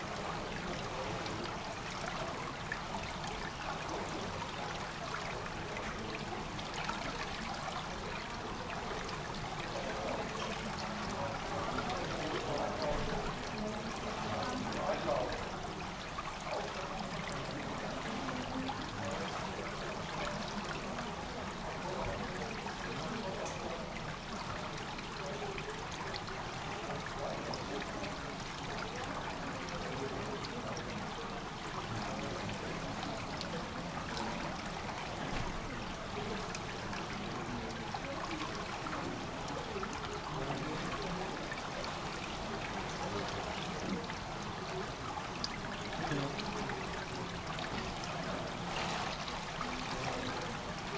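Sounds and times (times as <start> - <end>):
water trickling and splashing: 0.0 - 50.9.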